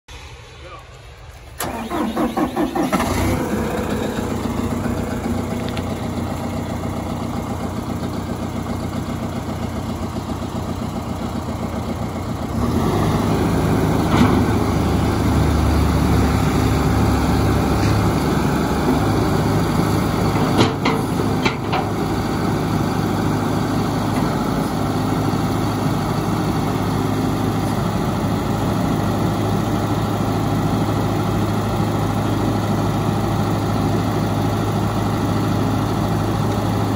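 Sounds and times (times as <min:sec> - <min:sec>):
diesel tractor engine idling: 0:01.3 - 0:36.9.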